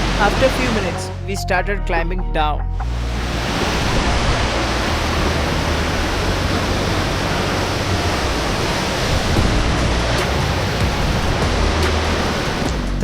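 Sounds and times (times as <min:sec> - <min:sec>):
waterfall pouring heavily: 0:00.0 - 0:01.0, 0:02.9 - 0:13.0.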